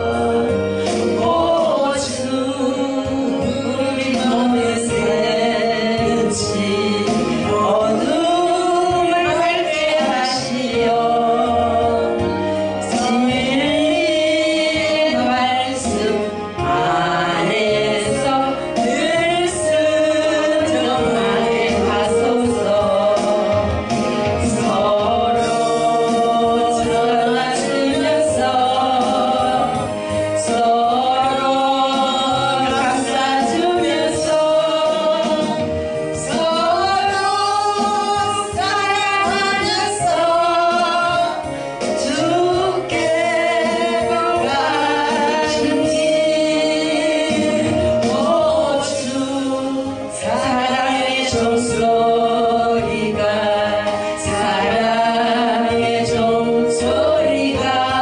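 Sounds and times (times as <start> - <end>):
held musical accompaniment: 0.0 - 58.0
voices singing gospel song: 0.0 - 58.0.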